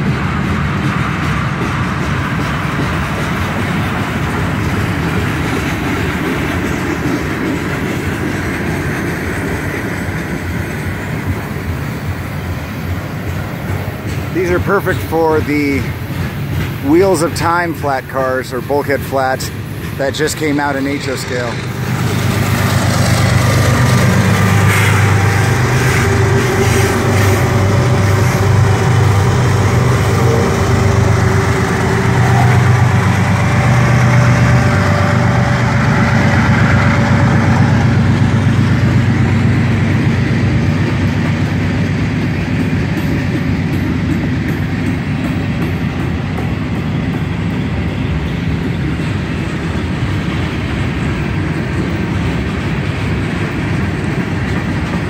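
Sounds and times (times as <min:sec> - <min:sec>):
diesel locomotive engine drone: 0:00.0 - 0:55.0
steel wheels rumbling on rails: 0:00.0 - 0:55.0.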